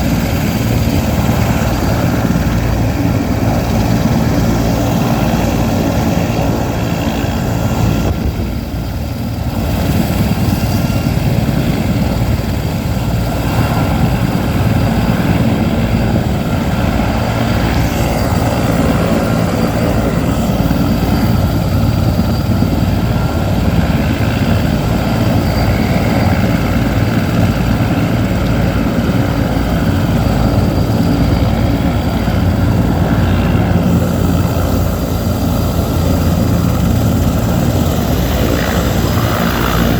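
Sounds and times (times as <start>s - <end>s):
helicopter rotor rumble: 0.0s - 39.9s
turbine whine: 0.0s - 39.9s.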